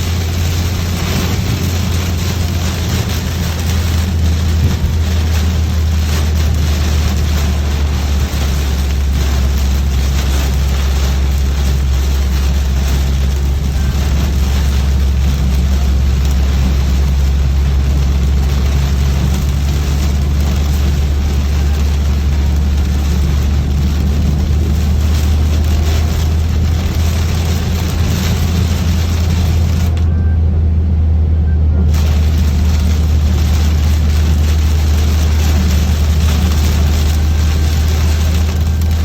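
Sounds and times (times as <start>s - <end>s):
rain hiss: 0.0s - 30.0s, 31.9s - 39.0s
car engine and road hum: 0.0s - 39.0s.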